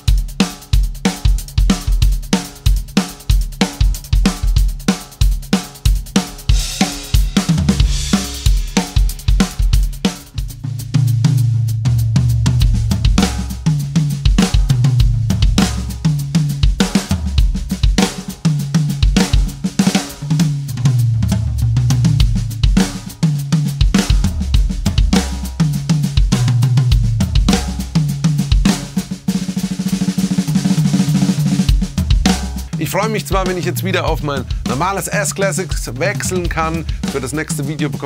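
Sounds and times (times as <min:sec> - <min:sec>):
drum kit playing a groove: 0:00.0 - 0:38.0.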